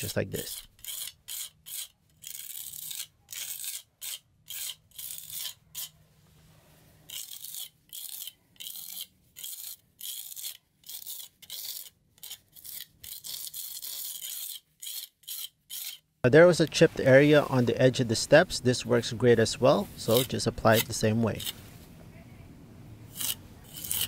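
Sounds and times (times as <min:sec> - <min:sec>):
trowel scraping on concrete: 0:00.0 - 0:06.0, 0:07.0 - 0:21.7, 0:23.1 - 0:24.0.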